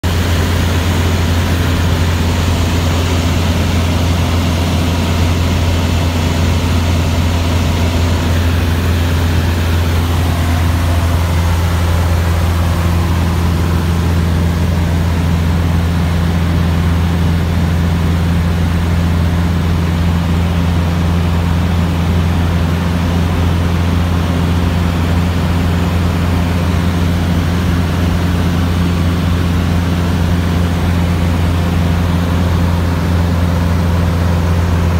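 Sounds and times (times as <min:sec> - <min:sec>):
airplane engine drone in cabin: 0:00.0 - 0:34.9.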